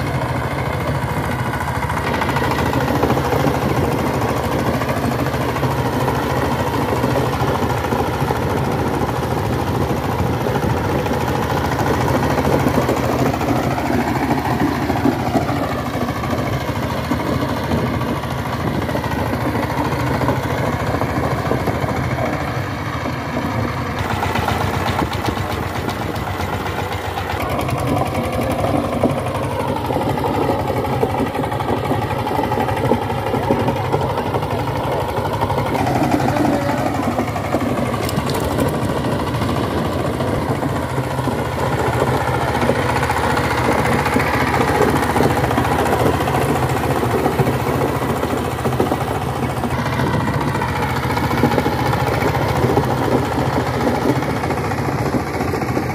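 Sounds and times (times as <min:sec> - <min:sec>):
diesel tiller engine knocking: 0:00.0 - 0:55.9.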